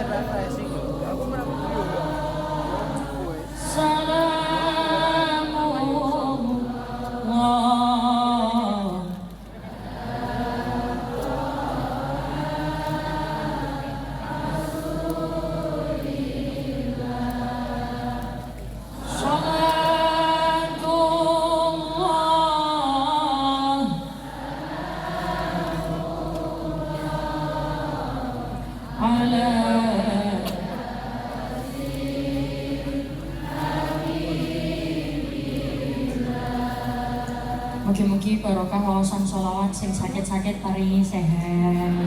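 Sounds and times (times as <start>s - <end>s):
voices singing devotional song: 0.0s - 42.0s.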